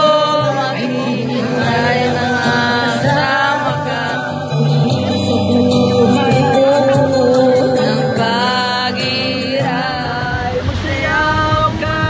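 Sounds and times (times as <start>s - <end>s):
backing music with bass line: 0.0s - 12.0s
person singing into microphone: 0.0s - 12.0s.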